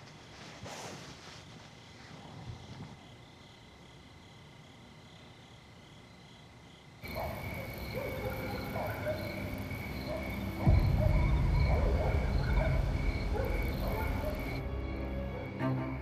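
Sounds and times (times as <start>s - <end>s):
crickets chirping: 1.2s - 16.0s.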